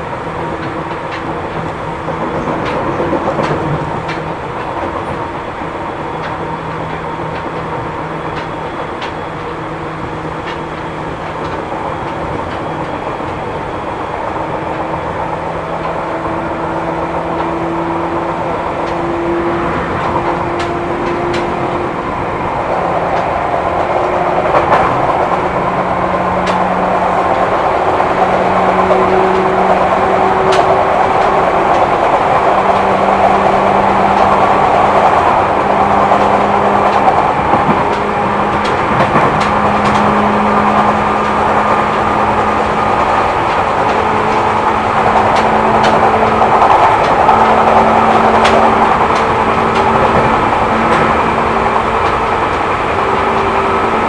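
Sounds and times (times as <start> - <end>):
electric train motor hum: 0.0 - 54.0
wheels rumbling on rail: 0.0 - 54.0.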